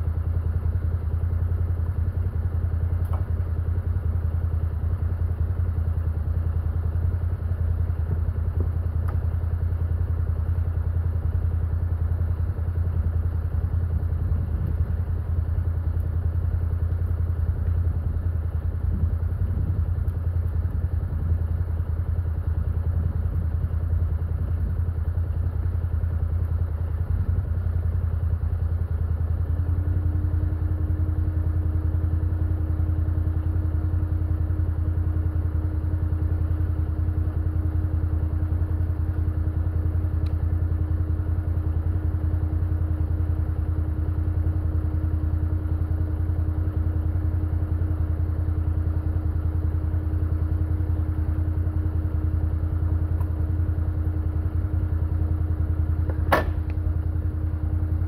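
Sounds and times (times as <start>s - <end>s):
engine idling: 0.0s - 58.0s
steady higher hum: 0.0s - 58.0s.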